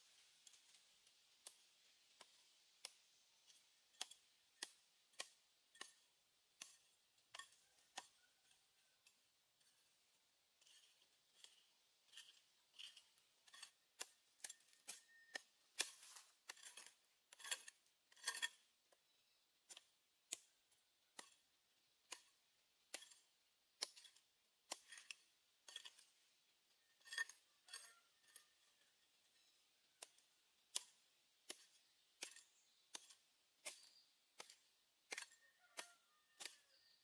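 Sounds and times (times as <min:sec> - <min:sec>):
hand hoe chopping into soil: 0:00.4 - 0:10.0, 0:10.6 - 0:19.0, 0:19.6 - 0:26.2, 0:27.0 - 0:37.0.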